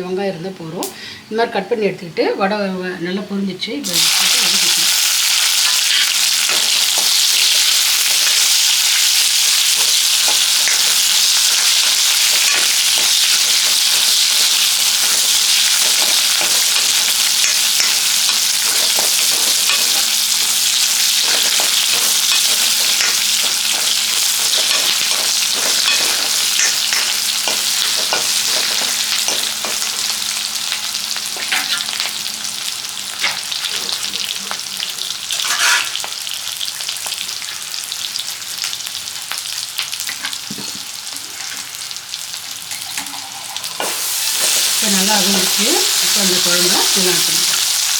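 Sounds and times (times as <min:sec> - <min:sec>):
food sizzling in hot oil: 0:03.8 - 0:47.9.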